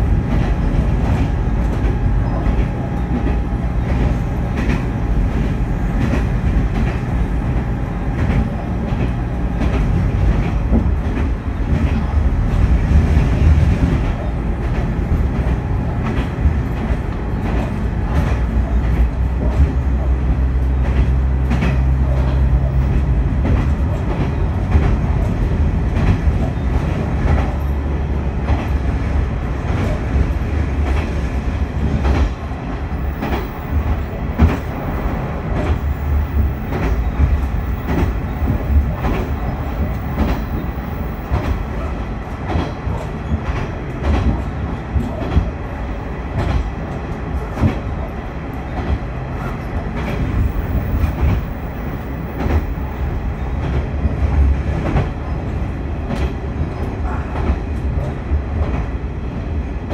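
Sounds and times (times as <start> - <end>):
railcar running rumble: 0.0 - 59.9.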